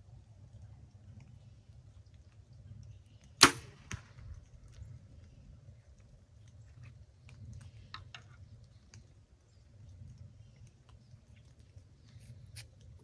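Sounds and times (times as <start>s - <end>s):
faint clicks and ticks: 0.0s - 13.0s
low outdoor rumble: 0.0s - 13.0s.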